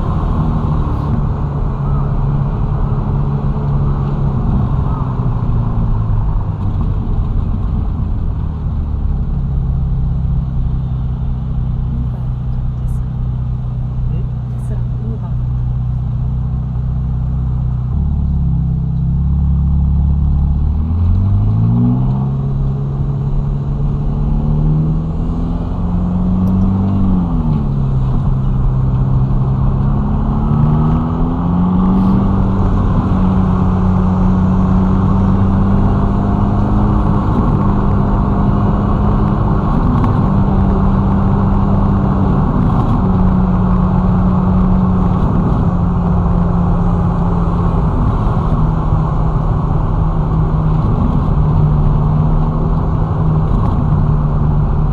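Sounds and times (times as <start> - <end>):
car engine accelerating: 0.0 - 54.9
road and tyre noise: 0.0 - 54.9.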